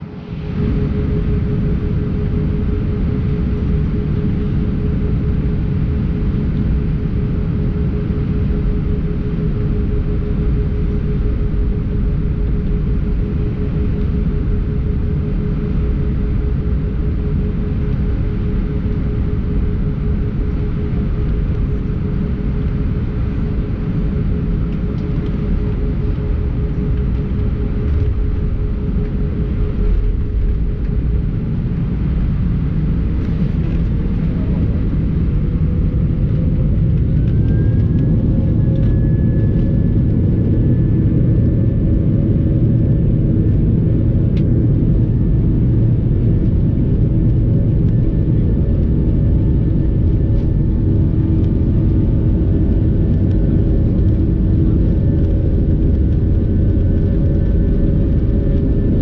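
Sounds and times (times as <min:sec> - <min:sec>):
jet engines rumbling and whining: 0:00.0 - 0:59.0.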